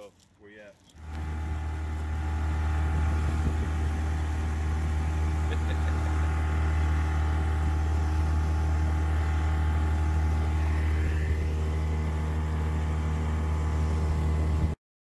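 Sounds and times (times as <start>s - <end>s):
outboard motor running: 1.0s - 14.8s.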